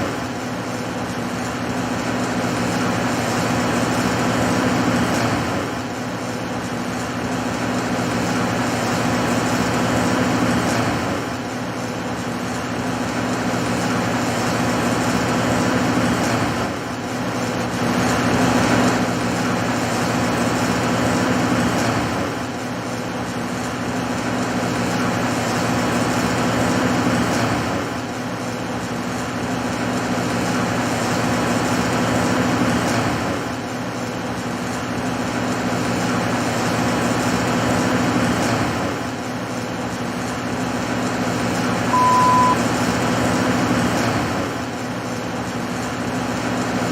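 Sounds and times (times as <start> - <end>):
welding machine running: 0.0 - 41.9.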